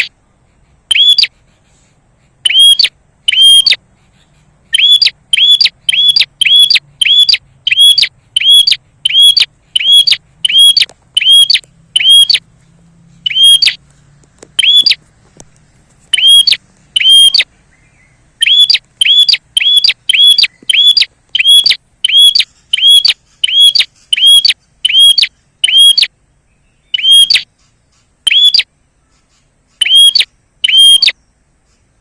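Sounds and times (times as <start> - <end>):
small bird chirping: 0.9 - 1.4, 2.3 - 32.0.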